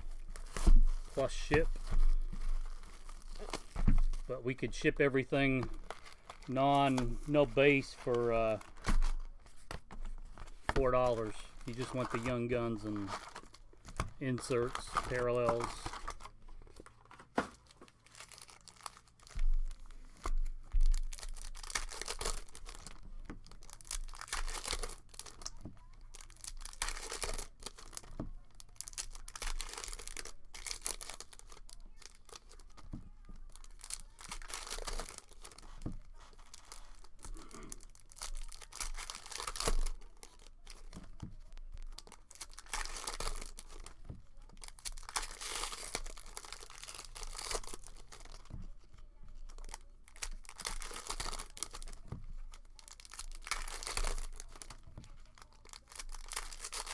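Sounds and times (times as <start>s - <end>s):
foil packs tearing and crinkling: 0.0s - 56.9s.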